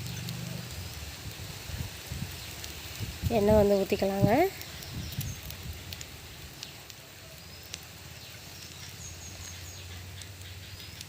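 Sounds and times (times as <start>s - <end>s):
oil crackling in a pan: 0.0s - 11.0s
small birds chirping: 0.0s - 11.0s.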